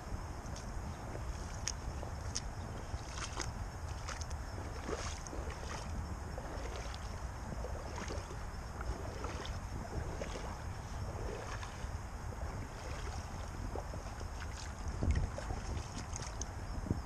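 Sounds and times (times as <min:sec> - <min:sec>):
light crackles and rustles: 0:00.0 - 0:17.0
wind buffeting microphone: 0:00.0 - 0:17.0.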